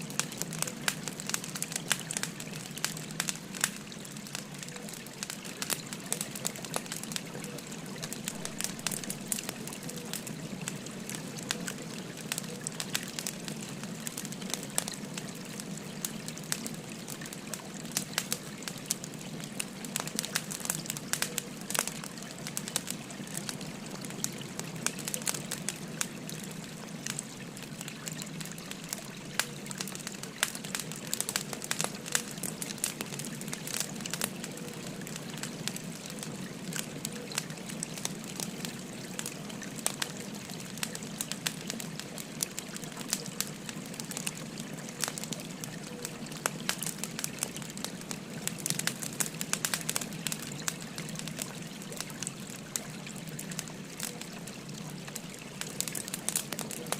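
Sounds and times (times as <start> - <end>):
flowing stream: 0.0 - 56.9
wood fire crackling and popping: 0.0 - 56.9.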